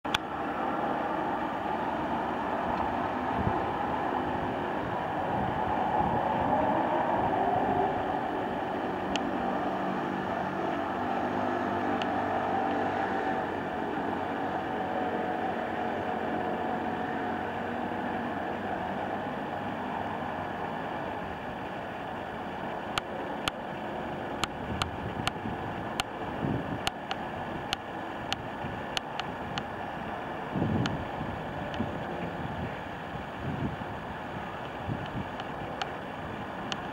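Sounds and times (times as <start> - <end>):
engine running: 0.0 - 36.9.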